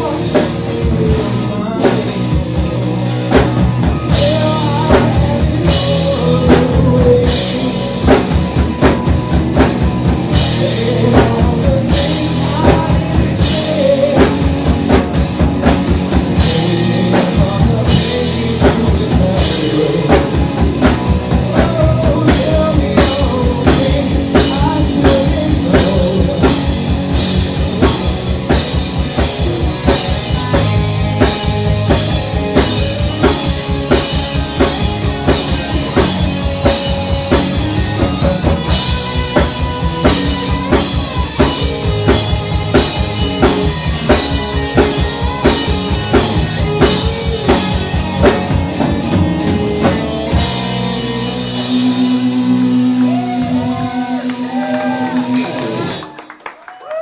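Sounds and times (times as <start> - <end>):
drum kit beat: 0.0 - 56.1
live rock band playing: 0.0 - 56.8.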